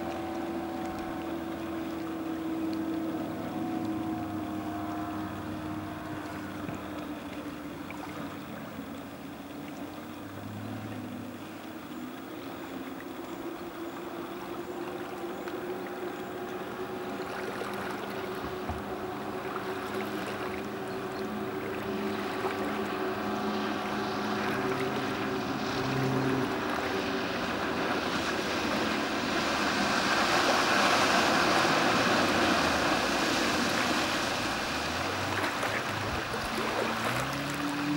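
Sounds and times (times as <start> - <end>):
distant outboard motor drone: 0.0 - 37.9.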